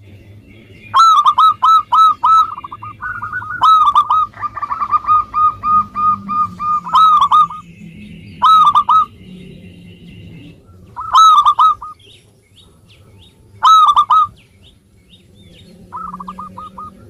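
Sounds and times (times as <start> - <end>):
dove cooing: 0.9 - 12.1, 13.0 - 14.4, 15.4 - 17.0.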